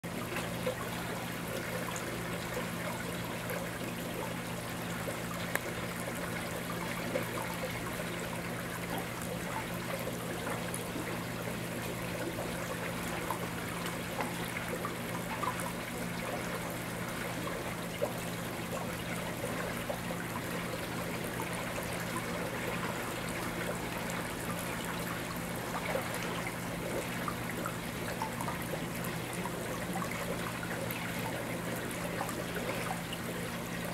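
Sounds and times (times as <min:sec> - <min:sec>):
pond water trickling and splashing: 0:00.0 - 0:33.9
water drips: 0:00.1 - 0:33.9.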